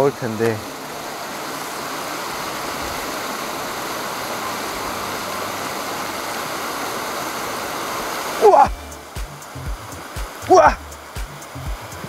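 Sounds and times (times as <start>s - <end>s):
water pouring into river: 0.0s - 11.9s.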